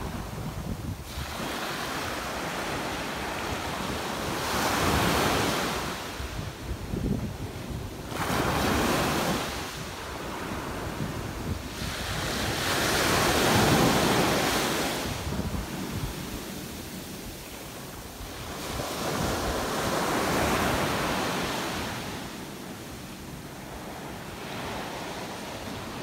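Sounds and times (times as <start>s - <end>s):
waves breaking on beach: 0.0s - 26.0s.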